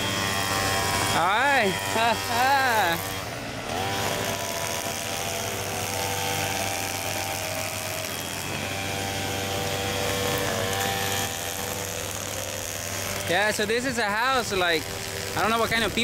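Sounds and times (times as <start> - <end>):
machine humming with whine: 0.0 - 16.0.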